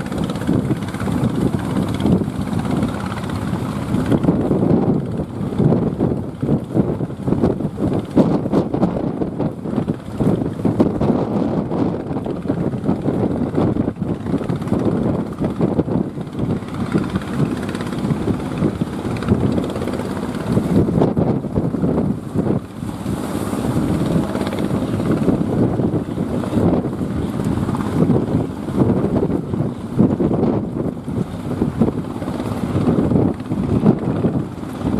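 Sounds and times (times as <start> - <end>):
strong wind on microphone: 0.0 - 34.9.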